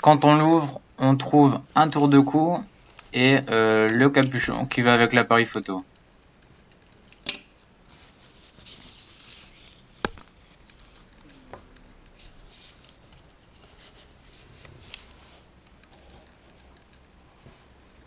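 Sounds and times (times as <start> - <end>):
faint rustling: 1.8 - 18.0.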